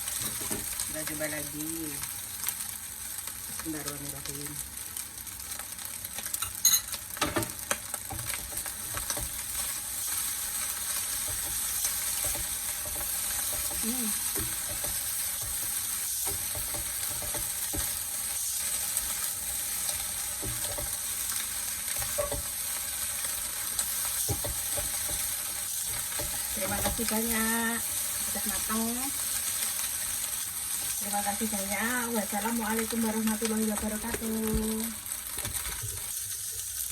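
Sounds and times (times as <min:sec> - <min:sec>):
fried rice sizzling in a pan: 0:00.0 - 0:36.9.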